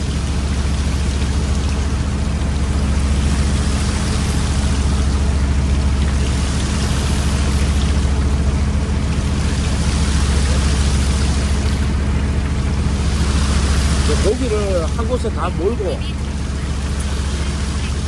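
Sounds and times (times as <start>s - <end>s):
boat engine humming: 0.0s - 18.0s
rushing water: 0.0s - 18.0s.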